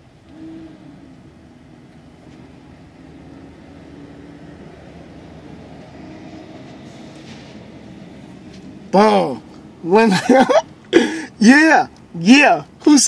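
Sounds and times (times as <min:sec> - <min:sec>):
truck diesel engine passing: 0:00.0 - 0:11.3.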